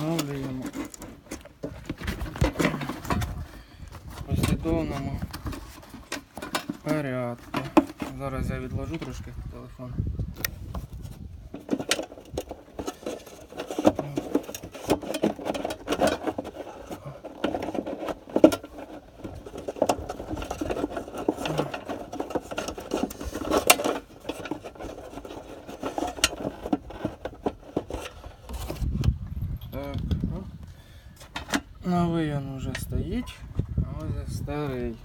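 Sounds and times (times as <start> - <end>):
rustling and scraping: 0.0 - 35.0.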